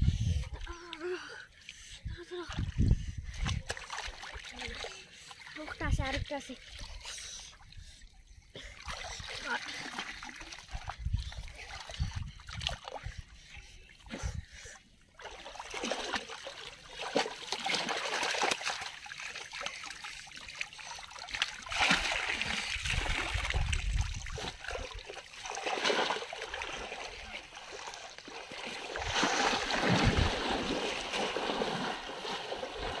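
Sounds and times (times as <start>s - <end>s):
people wading through water: 0.4s - 33.0s.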